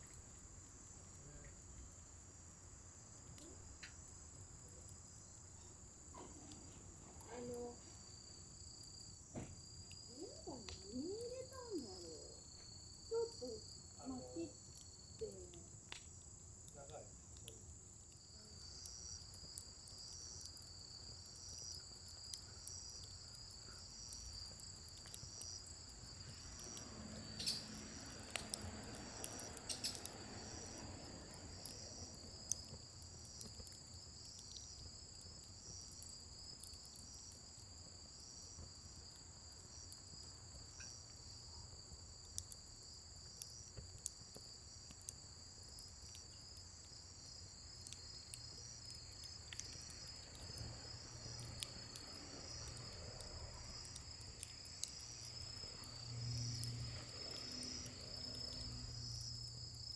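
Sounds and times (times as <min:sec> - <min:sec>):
crickets chirping: 0:00.0 - 0:59.9
wood fire crackles: 0:00.0 - 0:59.9.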